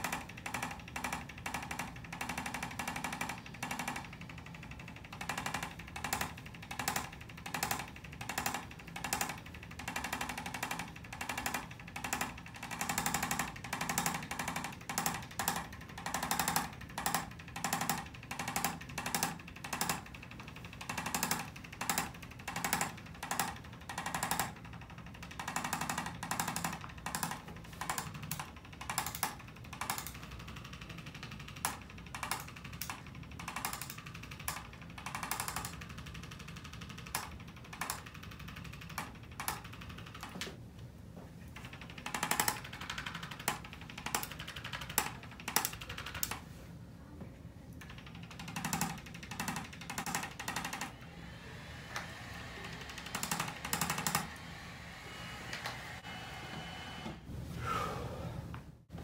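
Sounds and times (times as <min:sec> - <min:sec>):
adjusting instrument rapid clicks: 0:00.0 - 0:40.5, 0:41.6 - 0:46.4, 0:47.8 - 0:51.0, 0:51.7 - 0:54.6.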